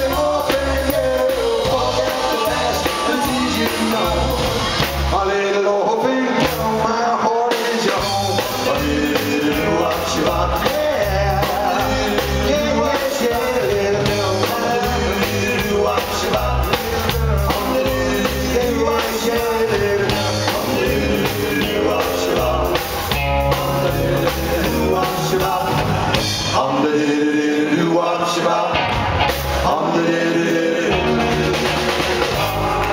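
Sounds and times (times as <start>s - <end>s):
rock and roll band playing: 0.0s - 32.9s.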